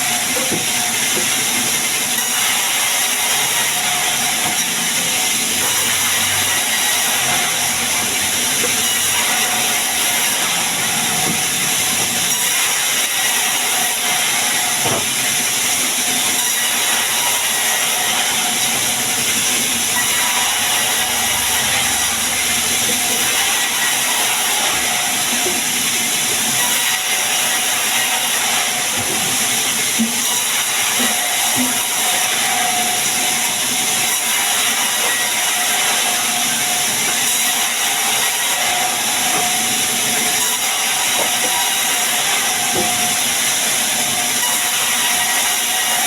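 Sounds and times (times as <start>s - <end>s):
sawmill saw hissing: 0.0s - 46.0s.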